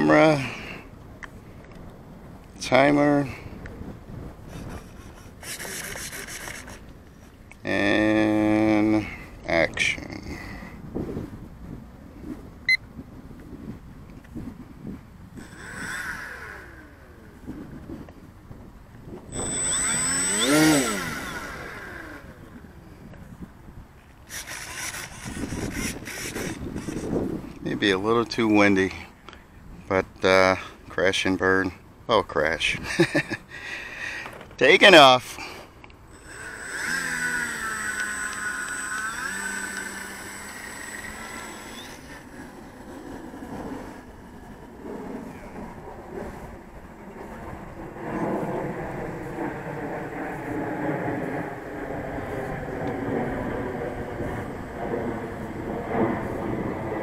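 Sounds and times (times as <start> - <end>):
electric motor and propeller whine: 0.0 - 28.9, 34.3 - 57.0
wind buffeting microphone: 0.0 - 30.2, 35.7 - 57.0.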